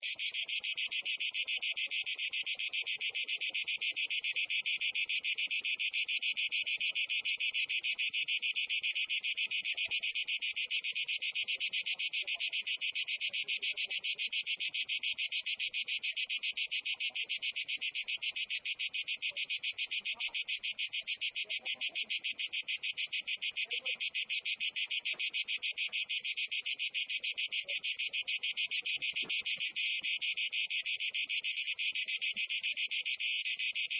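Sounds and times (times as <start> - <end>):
cicadas buzzing: 0.0 - 33.9.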